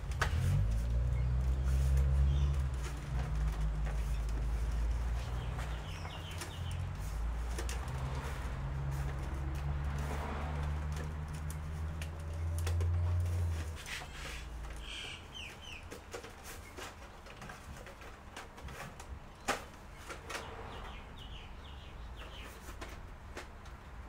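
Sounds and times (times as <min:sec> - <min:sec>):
birds chirping: 0:00.4 - 0:08.3, 0:10.9 - 0:23.8.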